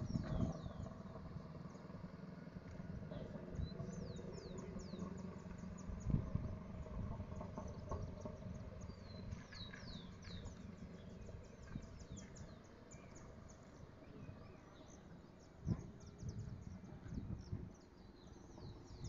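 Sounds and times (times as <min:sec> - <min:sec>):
birds chirping: 0:00.0 - 0:02.2, 0:03.0 - 0:19.0
low rumble: 0:00.0 - 0:19.0.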